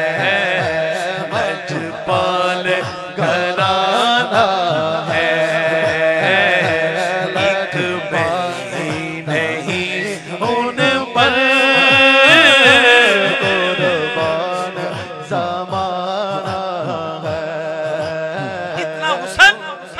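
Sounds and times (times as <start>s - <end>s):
man singing through a microphone: 0.0s - 19.9s.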